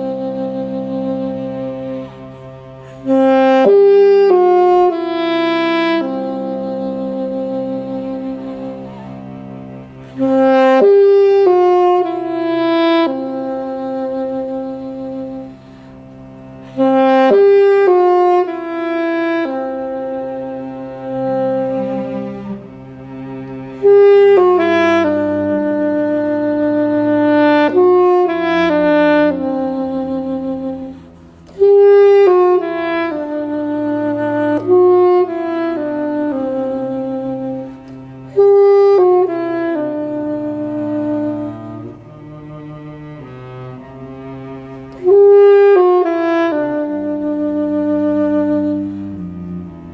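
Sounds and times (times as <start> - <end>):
low cello note: 0.0 - 49.9
saxophone: 0.0 - 49.9.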